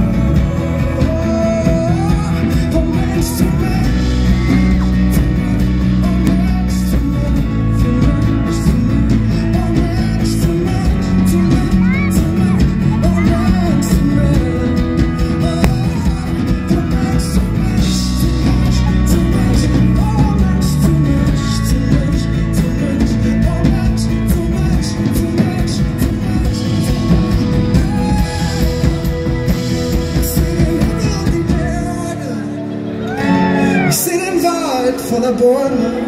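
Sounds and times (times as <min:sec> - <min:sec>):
bass guitar: 0:00.0 - 0:36.0
man singing: 0:00.0 - 0:36.0.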